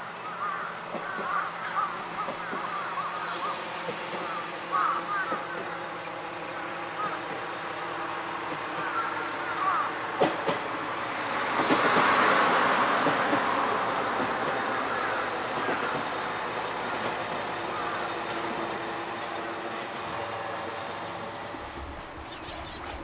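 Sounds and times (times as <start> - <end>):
diesel railcar passing: 0.0 - 23.0.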